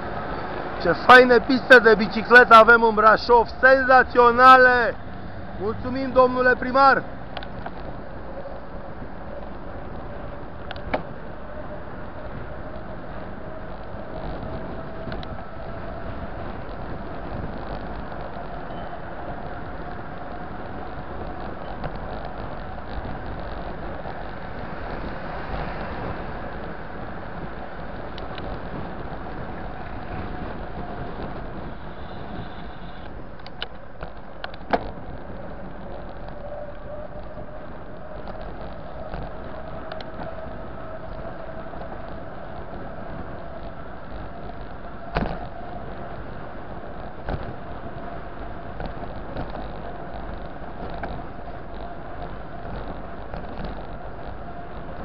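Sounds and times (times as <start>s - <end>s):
bicycle rolling on asphalt: 0.0s - 55.0s
wind on microphone: 0.0s - 55.0s.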